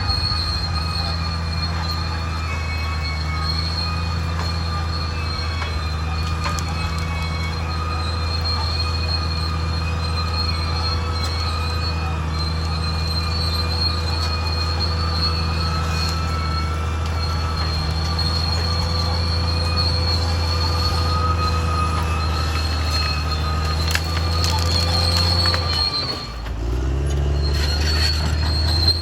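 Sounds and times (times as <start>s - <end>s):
diesel engine droning: 0.0s - 29.0s
steel tracks squealing: 0.0s - 29.0s.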